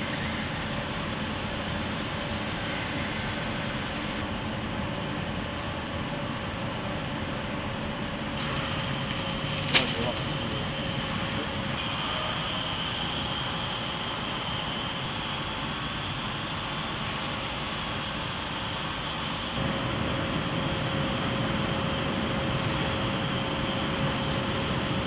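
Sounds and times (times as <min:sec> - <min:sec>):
factory machinery humming: 0:00.0 - 0:25.0.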